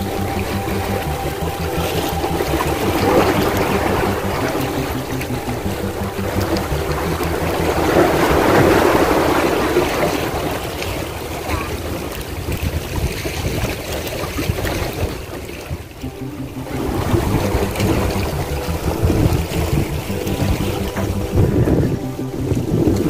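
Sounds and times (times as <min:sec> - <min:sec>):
water noise: 0:00.0 - 0:23.0
wind: 0:00.0 - 0:23.0.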